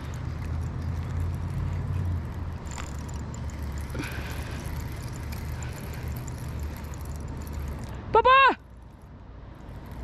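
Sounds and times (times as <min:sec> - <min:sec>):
spinning reel ticking: 0:00.0 - 0:08.0, 0:08.6 - 0:10.0.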